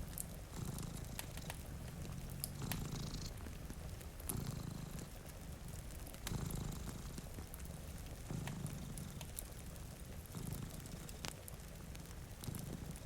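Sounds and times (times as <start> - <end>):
cat purring: 0.0 - 13.0
wood fire crackling: 0.0 - 13.0.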